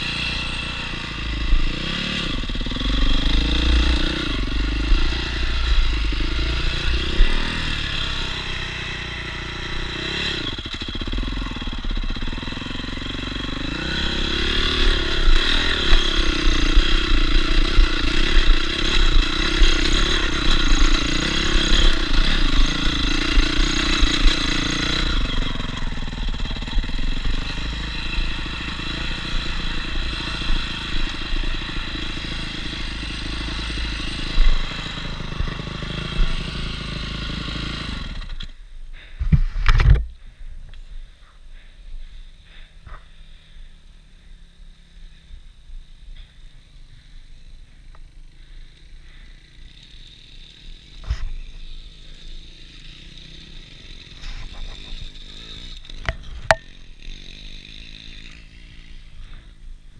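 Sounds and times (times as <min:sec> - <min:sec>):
dirt bike engine revving: 0:00.0 - 0:40.3, 0:40.9 - 0:59.9.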